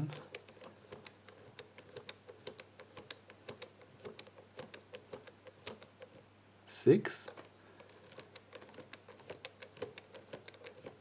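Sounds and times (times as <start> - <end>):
combination lock wheels clicking: 0.0 - 6.2, 7.3 - 11.0.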